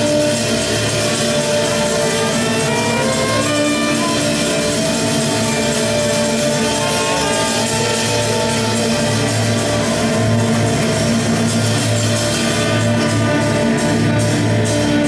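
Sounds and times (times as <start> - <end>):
bowed violins: 0.0 - 15.0
trumpet sustained notes: 0.0 - 15.0.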